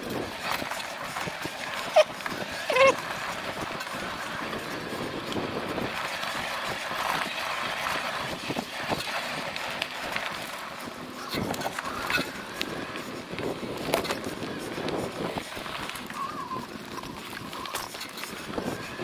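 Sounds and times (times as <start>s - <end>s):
bike tyre running noise: 0.0s - 19.0s
grating from front wheel: 0.0s - 19.0s.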